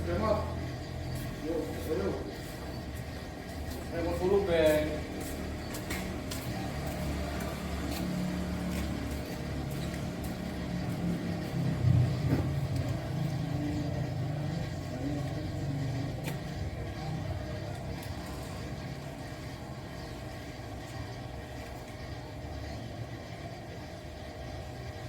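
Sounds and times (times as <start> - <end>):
garage door opener motor running: 0.0 - 25.0.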